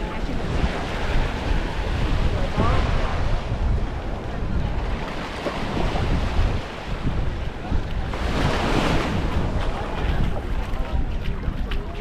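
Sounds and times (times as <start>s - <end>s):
small waves washing on beach: 0.0s - 12.0s
wind buffeting microphone: 0.0s - 12.0s.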